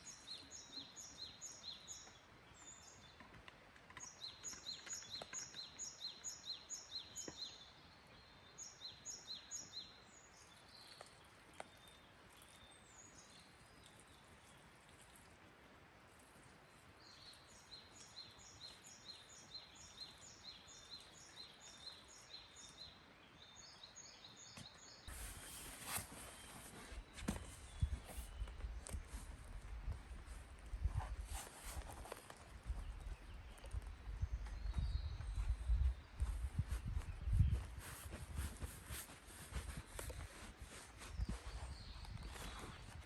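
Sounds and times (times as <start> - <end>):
faint outdoor hiss: 0.0 - 43.0.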